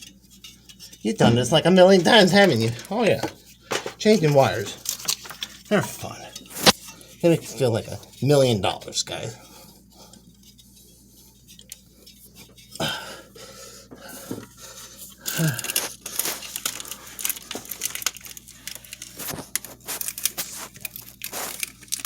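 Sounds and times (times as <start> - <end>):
wire scraping and clicking: 0.0 - 12.8, 13.9 - 22.0.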